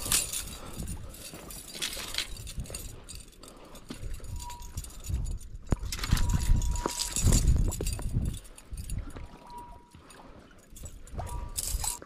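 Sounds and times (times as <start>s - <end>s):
wind rumble on microphone: 0.0s - 10.1s, 10.7s - 12.0s
light clinks and knocks: 0.0s - 12.0s.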